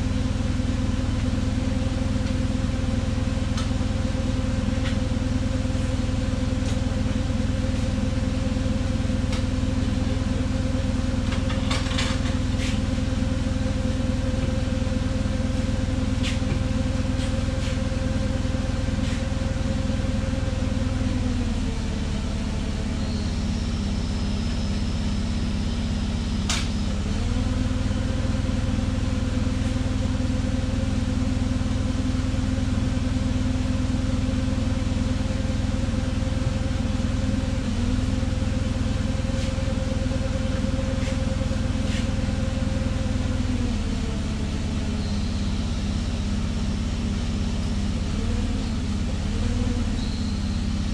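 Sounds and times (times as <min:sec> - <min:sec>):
forklift engine running: 0:00.0 - 0:50.9.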